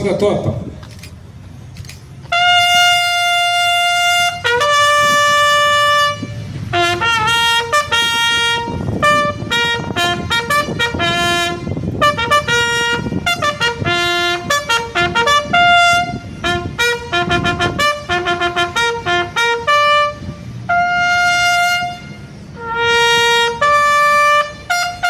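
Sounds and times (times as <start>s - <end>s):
bugle call: 2.2s - 25.0s.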